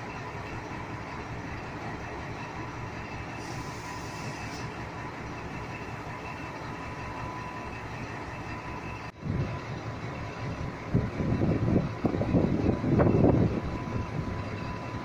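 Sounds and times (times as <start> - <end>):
diesel locomotive engine rumble: 0.0 - 15.0
rail yard noise: 0.0 - 15.0.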